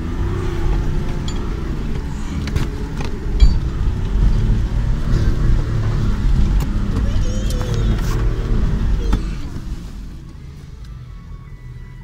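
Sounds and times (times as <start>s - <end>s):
engine and drivetrain rumble: 0.0s - 12.0s.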